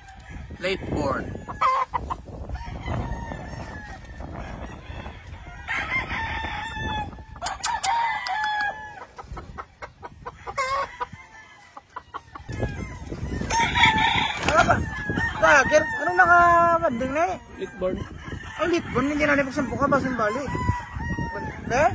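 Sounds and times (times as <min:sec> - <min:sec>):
roosters crowing: 0:00.0 - 0:21.9.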